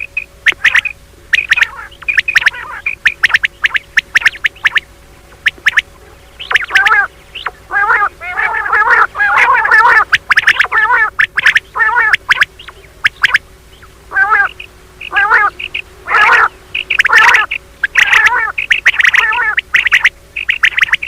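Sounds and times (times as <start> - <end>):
quail calls: 0.0 - 21.0.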